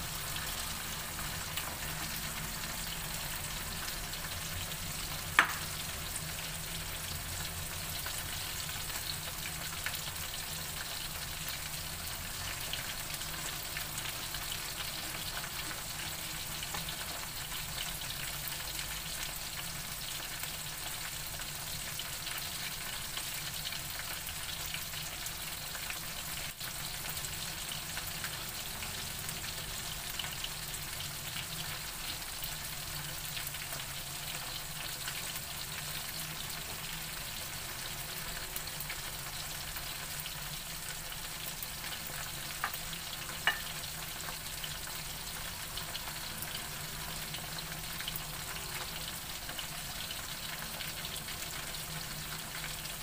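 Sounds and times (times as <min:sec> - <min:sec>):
deep-frying sizzle in hot oil: 0:00.0 - 0:53.0.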